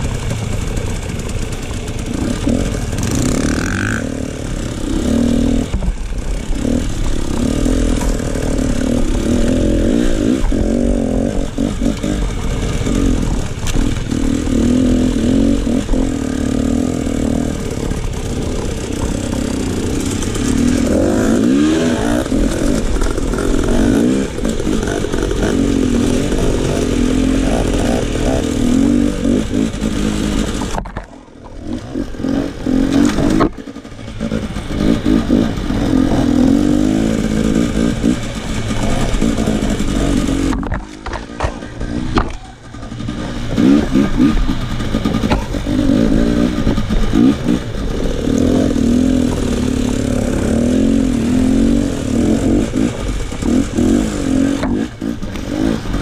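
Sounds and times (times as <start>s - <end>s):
clatter: 0.0s - 56.0s
dirt bike engine revving: 0.0s - 56.0s.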